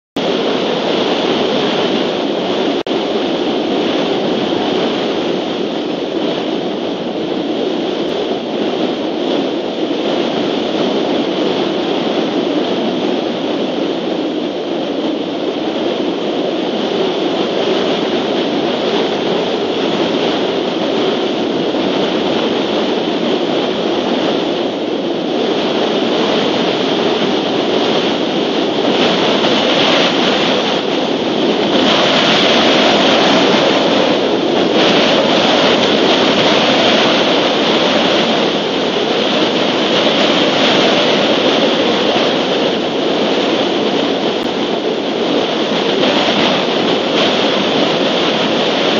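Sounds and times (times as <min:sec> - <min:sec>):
wind buffeting microphone: 0:00.2 - 0:48.9.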